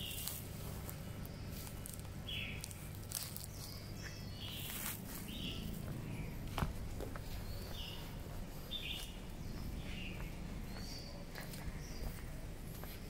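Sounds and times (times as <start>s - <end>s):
bird chirping: 0.0s - 12.9s
steady low hum: 0.0s - 13.0s.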